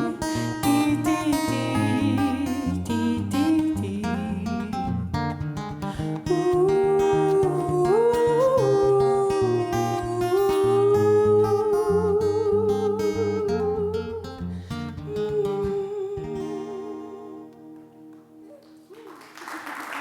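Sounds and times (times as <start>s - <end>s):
person singing wordless melody: 0.0s - 5.1s, 6.0s - 19.0s
acoustic guitar plucking: 0.0s - 19.0s.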